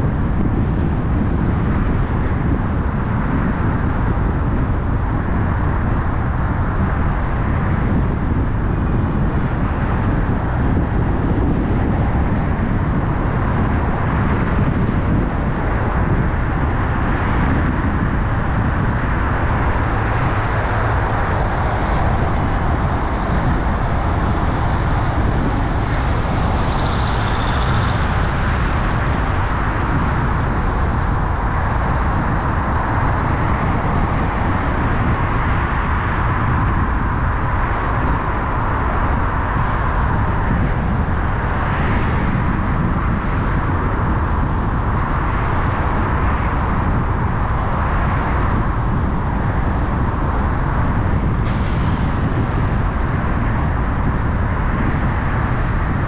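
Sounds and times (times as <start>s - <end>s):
car engine and tyre rumble: 0.0s - 56.0s
surrounding traffic: 0.0s - 56.0s.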